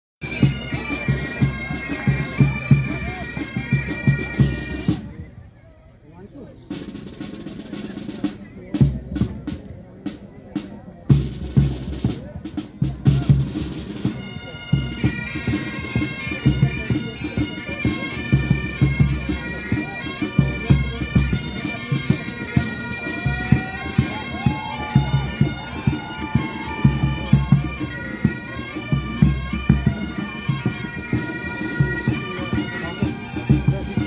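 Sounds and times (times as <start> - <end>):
drums beating: 0.2 - 5.3, 6.3 - 34.0
bagpipes playing marching tune: 0.2 - 5.4, 6.2 - 34.0.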